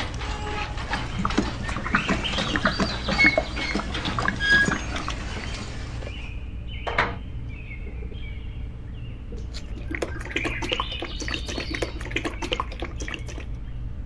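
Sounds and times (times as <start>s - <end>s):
small birds chirping: 1.0s - 13.9s.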